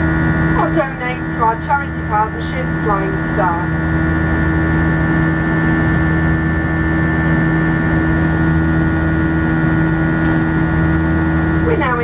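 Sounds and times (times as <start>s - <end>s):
jet engines droning: 0.0s - 12.0s
steady high whine: 0.0s - 12.0s.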